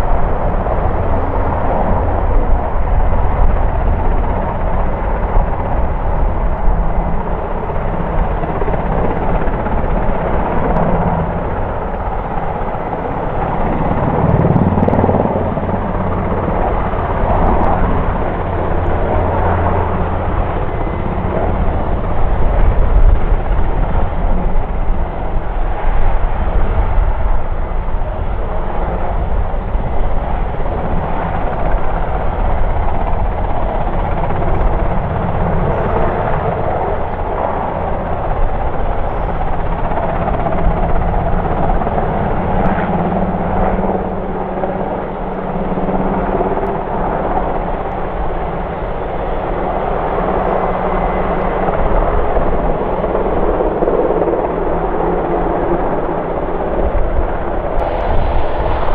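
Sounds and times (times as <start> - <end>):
helicopter turbine noise: 0.0 - 58.9.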